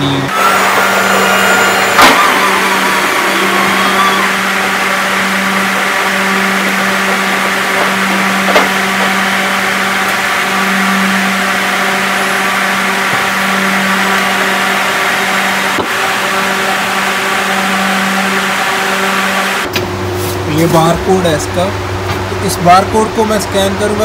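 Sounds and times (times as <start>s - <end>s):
hydraulic lift motor humming: 0.0s - 20.1s.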